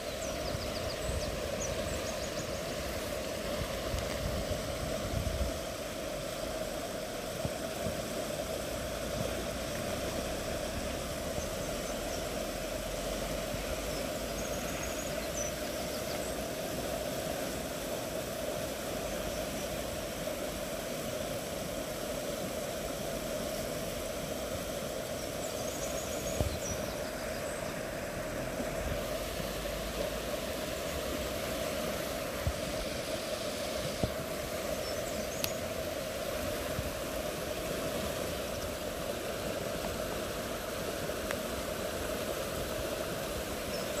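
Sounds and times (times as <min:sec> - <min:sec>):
river rushing: 0:00.0 - 0:44.0.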